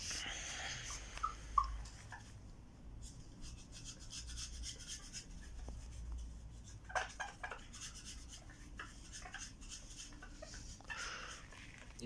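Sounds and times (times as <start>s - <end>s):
faint scratching and rubbing: 0.0s - 12.0s.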